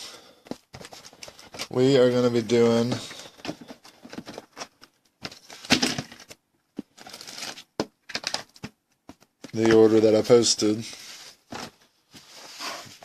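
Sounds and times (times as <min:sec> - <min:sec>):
handling rustles: 0:00.4 - 0:13.0.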